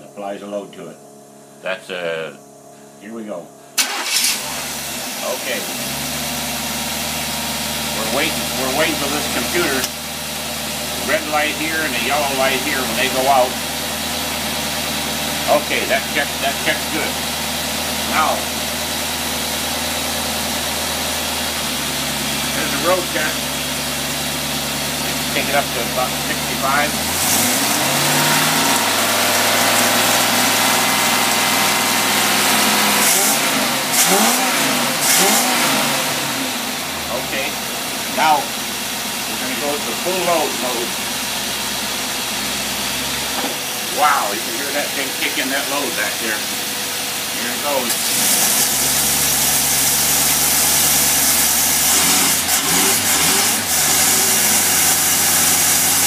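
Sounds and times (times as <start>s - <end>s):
engine running at raised speed: 3.8s - 56.0s.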